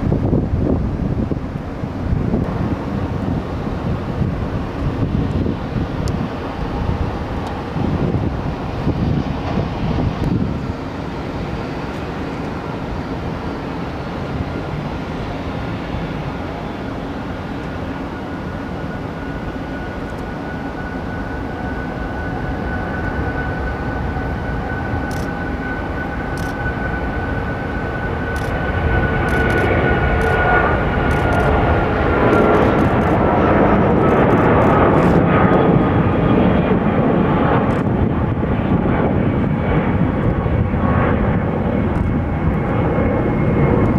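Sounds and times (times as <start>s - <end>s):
airplane engines whining: 0.0s - 43.9s.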